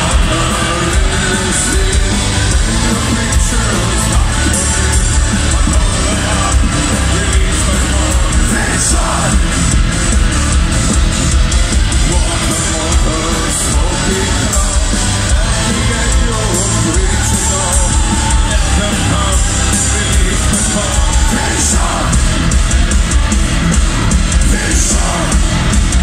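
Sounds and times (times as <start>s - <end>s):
man singing: 0.0s - 11.0s, 11.9s - 23.4s, 24.3s - 26.0s
live industrial metal music: 0.0s - 26.0s.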